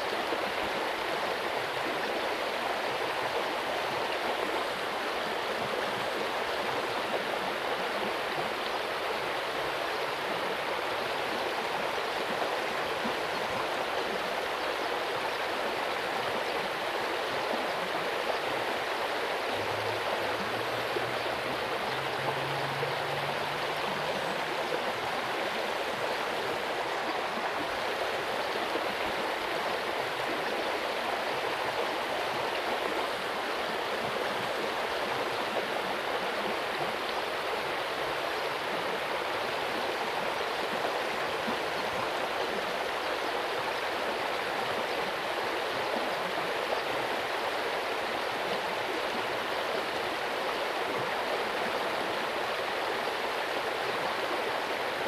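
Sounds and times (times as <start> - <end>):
water babbling in a ditch: 0.0 - 55.0.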